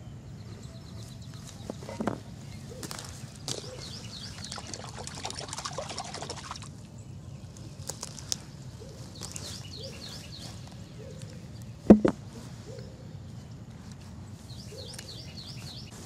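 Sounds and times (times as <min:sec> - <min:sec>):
small birds chirping: 0:00.0 - 0:16.0
crackling rustle: 0:00.9 - 0:16.0.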